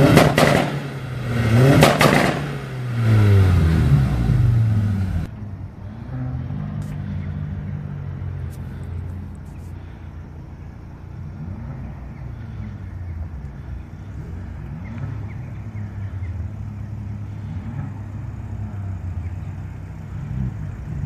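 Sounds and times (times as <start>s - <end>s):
car engines rumbling: 0.0s - 21.0s.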